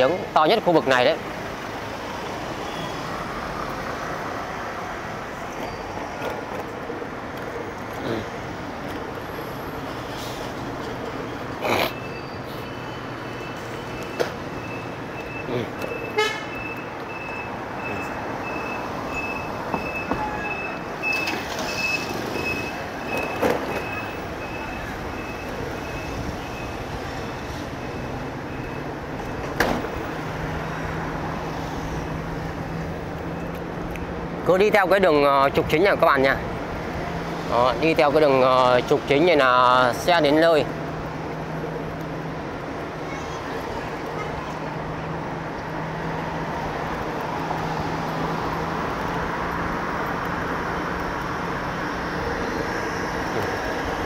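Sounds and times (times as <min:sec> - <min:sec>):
road traffic from passing cars: 0:00.0 - 0:54.0.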